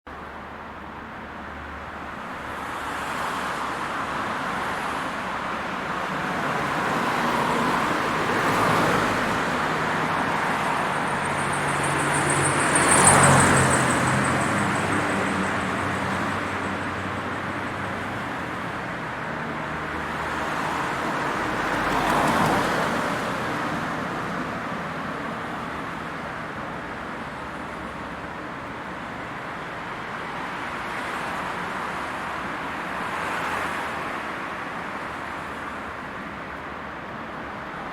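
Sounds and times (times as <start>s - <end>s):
cars passing on road: 0.1s - 37.9s.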